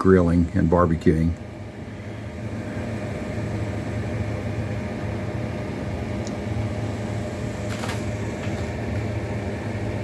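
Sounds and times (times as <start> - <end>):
appliance or fan humming: 0.0 - 10.0.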